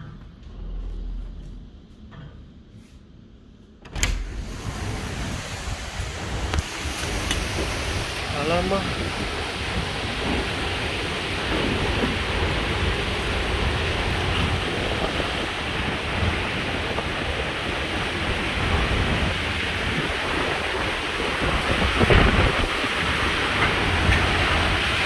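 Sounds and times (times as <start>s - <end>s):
wind buffeting microphone: 4.1s - 25.0s.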